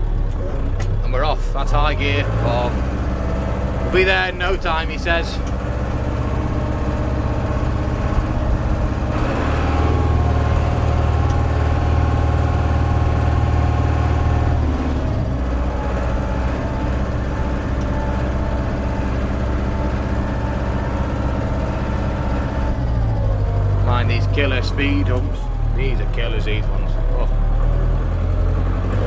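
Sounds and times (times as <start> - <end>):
tractor diesel engine droning: 0.0 - 29.0.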